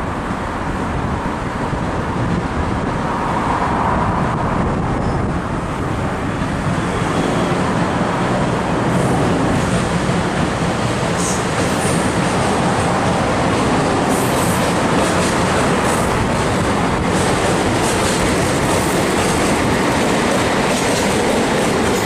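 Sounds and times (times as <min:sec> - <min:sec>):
passing vehicles rumble: 0:00.0 - 0:22.0.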